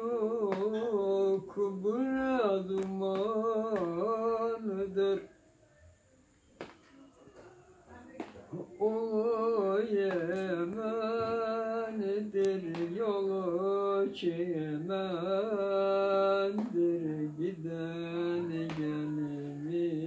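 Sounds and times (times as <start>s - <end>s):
old man singing unaccompanied: 0.0s - 5.5s, 8.5s - 20.0s.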